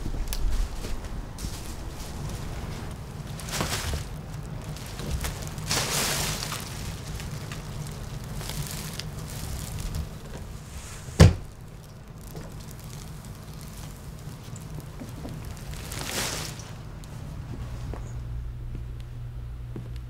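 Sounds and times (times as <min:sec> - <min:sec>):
plastic bin bag rustling: 0:00.0 - 0:18.0
steady low hum: 0:00.0 - 0:20.0.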